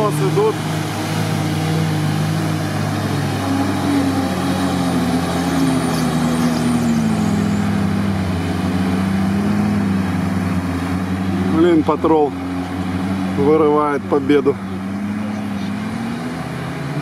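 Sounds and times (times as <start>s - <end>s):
off-road engines running hard: 0.0s - 17.0s.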